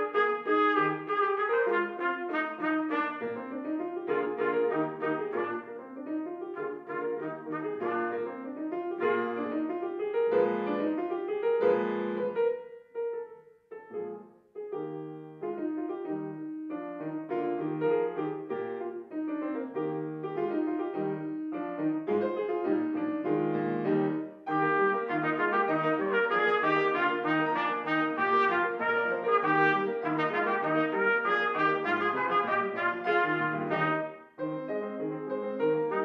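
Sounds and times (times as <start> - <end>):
slow classical piano: 0.0 - 36.0.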